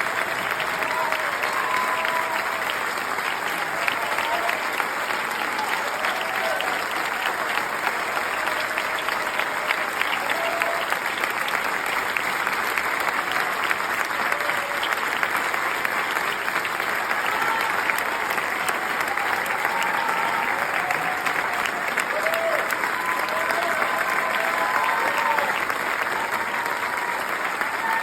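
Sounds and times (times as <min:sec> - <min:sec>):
audience clapping: 0:00.0 - 0:28.0.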